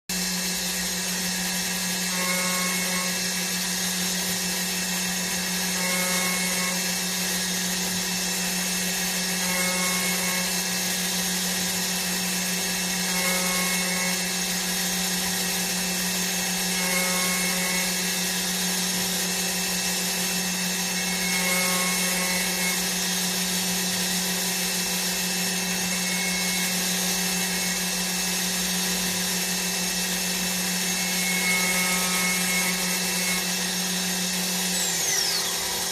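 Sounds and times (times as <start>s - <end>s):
machine motor hum and whir: 0.1s - 35.9s.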